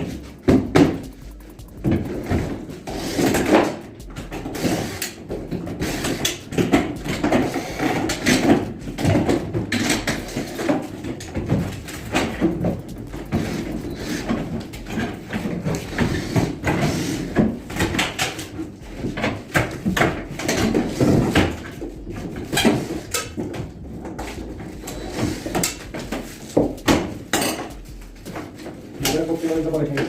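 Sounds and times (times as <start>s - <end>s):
knocks and clattering of hand work: 0.0s - 30.0s.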